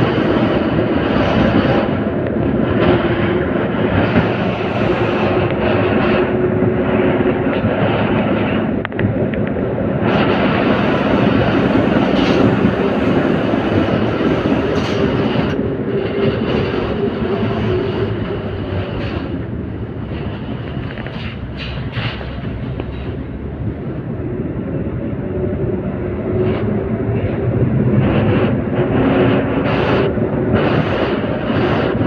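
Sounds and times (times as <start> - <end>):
tram wheels rumbling on rail: 0.0 - 32.0.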